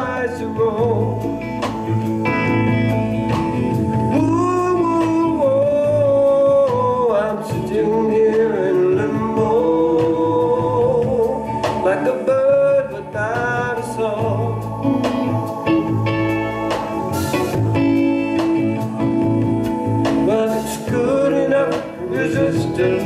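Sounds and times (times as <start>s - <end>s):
drums: 0.0s - 23.0s
electric bass: 0.0s - 23.0s
keyboards: 0.0s - 23.0s.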